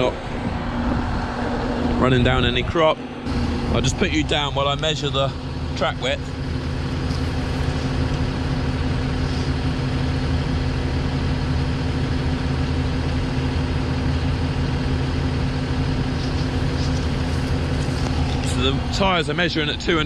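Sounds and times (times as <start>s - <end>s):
sprayer engine idling: 3.3s - 20.0s.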